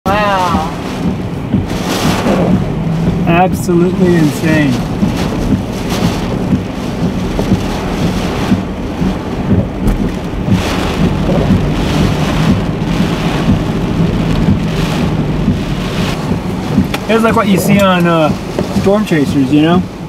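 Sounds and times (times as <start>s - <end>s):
heavy rain on vehicle: 0.0s - 20.0s
strong wind: 0.1s - 20.0s.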